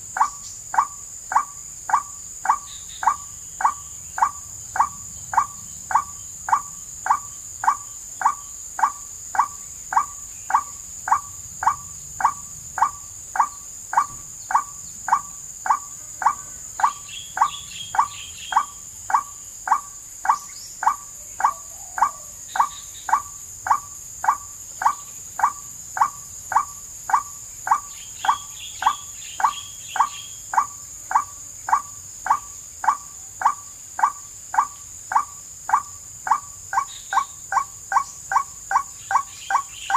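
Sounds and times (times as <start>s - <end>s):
high insect drone: 0.0s - 39.9s
higher bird chirps: 0.0s - 39.9s
repeated waterhen call: 0.0s - 39.9s.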